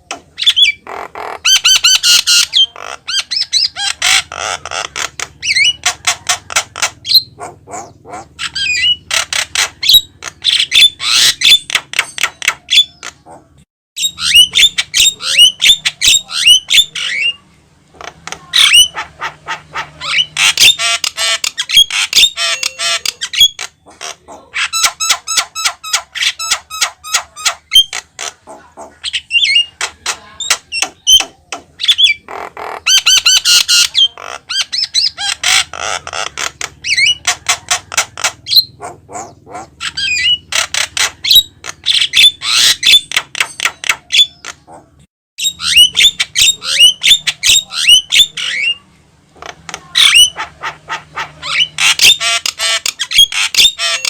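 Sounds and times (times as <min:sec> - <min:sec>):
bird squawking and whistling: 0:00.1 - 0:17.4, 0:18.4 - 0:48.8, 0:49.8 - 0:54.0.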